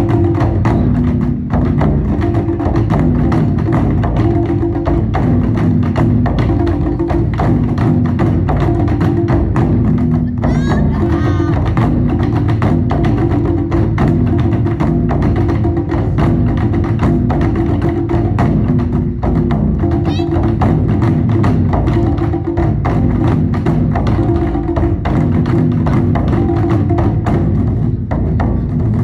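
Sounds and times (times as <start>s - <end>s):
taiko drums beating: 0.0s - 29.0s.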